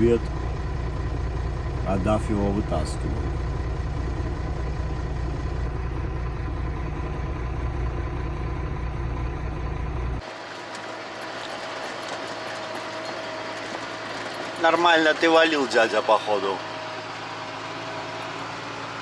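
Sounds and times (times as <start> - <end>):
road noise inside cab: 0.0 - 19.0
truck engine rumble: 0.0 - 19.0.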